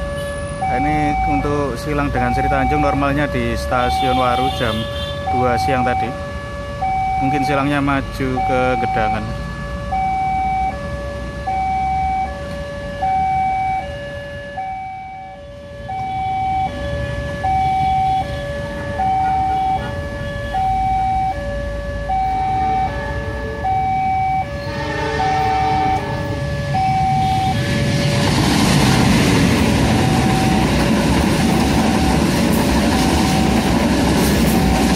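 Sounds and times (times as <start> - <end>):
level-crossing two-tone alarm: 0.0 - 28.4, 29.7 - 34.9
diesel locomotive approaching: 0.0 - 34.9.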